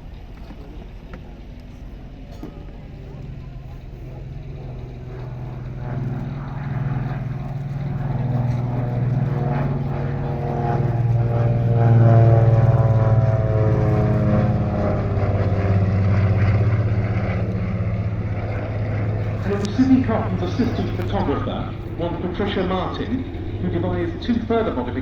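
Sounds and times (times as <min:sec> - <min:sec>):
twin-engine plane flyby: 0:00.0 - 0:25.0.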